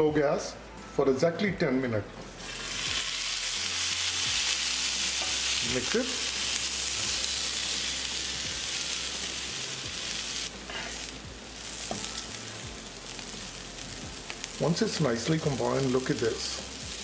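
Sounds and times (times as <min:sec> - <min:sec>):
potatoes sizzling in a frying pan: 0:02.4 - 0:17.0.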